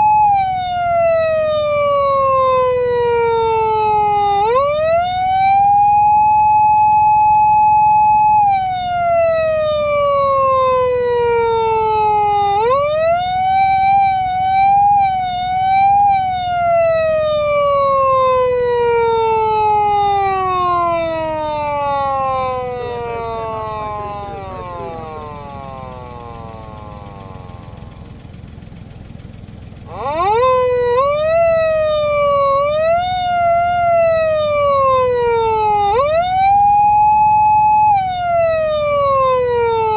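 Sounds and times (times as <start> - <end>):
electronic siren wailing: 0.0 - 39.9.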